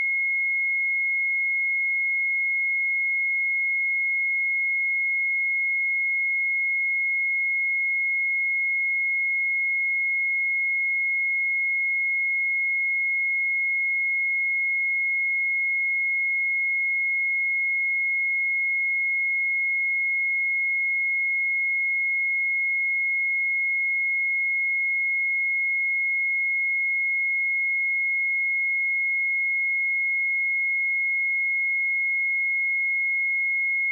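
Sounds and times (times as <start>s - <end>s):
sine-wave test tone: 0.0s - 33.9s.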